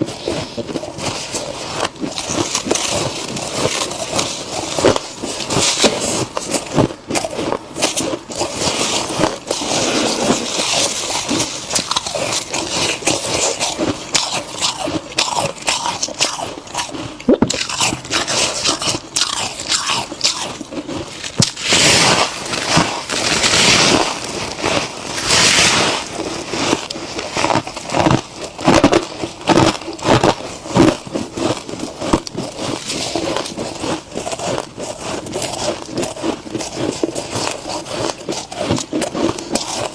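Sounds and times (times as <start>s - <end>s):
frost being crunched by teeth: 1.2s - 39.9s.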